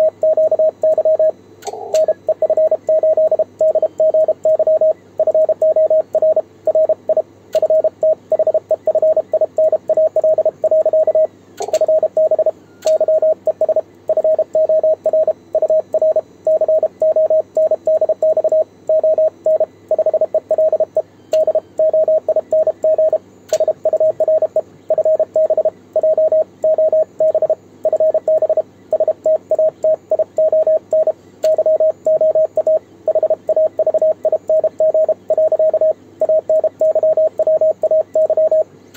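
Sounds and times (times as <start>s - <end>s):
morse code beeps: 0.0s - 38.7s.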